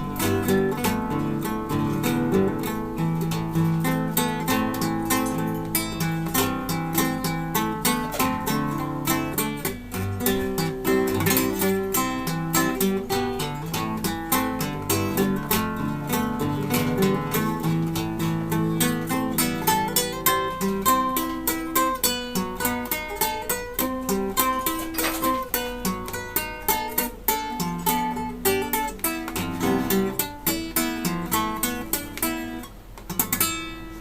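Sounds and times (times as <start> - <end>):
classical guitar solo: 0.0 - 34.0.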